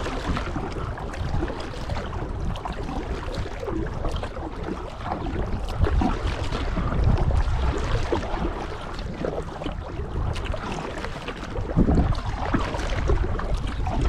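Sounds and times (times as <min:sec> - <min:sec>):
kayak paddle splashing: 0:00.0 - 0:14.0
wind on microphone: 0:00.0 - 0:14.0.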